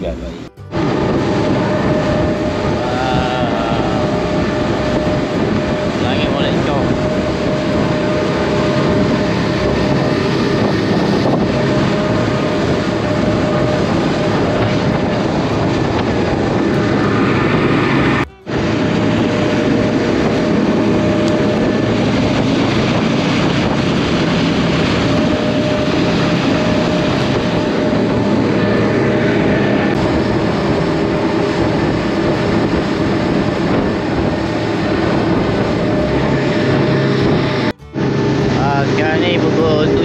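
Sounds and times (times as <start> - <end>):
outboard motors running: 0.0 - 40.0
water rushing along hull: 0.0 - 40.0.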